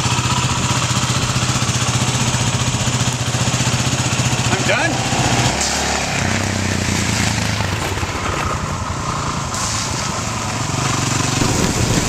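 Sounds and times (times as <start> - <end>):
motorcycle engine running: 0.0 - 5.4, 6.3 - 12.0
noisy rush: 0.0 - 12.0.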